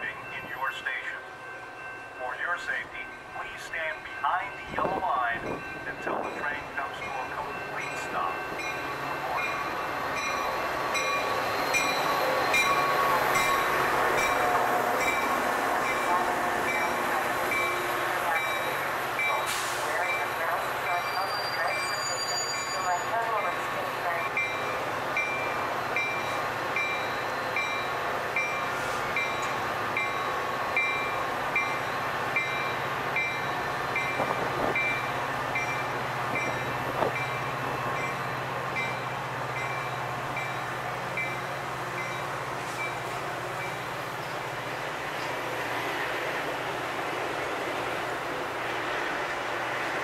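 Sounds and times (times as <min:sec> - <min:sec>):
diesel locomotive running: 0:00.0 - 0:50.0.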